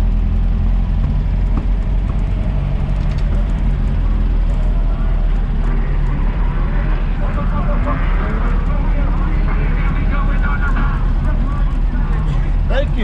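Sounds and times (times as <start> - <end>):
vehicle engine rumbling: 0.0 - 13.0
background voices: 1.1 - 13.0.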